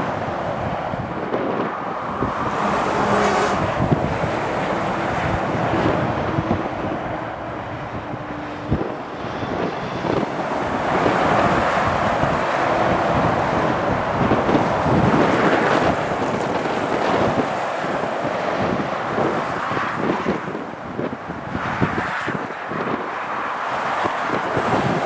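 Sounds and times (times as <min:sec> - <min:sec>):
motorway traffic passing: 0:00.0 - 0:25.0
wind buffeting microphone: 0:00.0 - 0:25.0.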